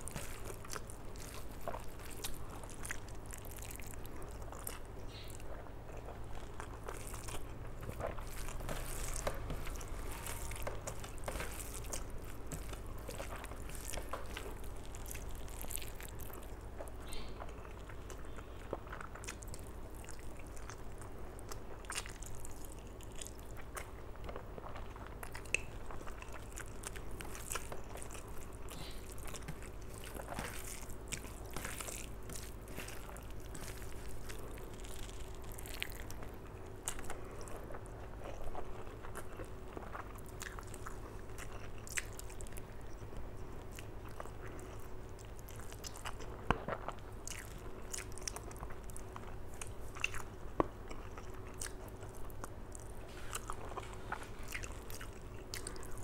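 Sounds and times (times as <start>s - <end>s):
faint steady hum: 0.0s - 56.0s
wet chewing: 0.0s - 56.0s.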